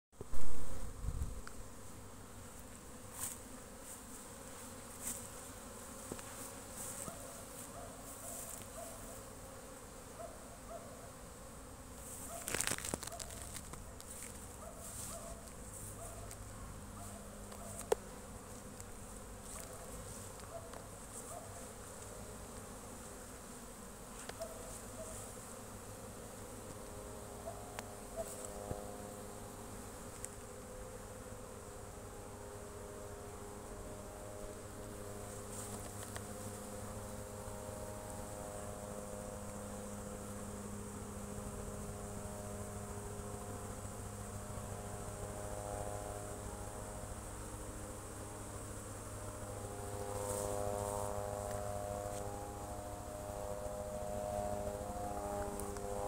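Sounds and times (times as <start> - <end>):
single bees buzzing past: 0.2 - 56.0
bees humming: 0.3 - 56.0.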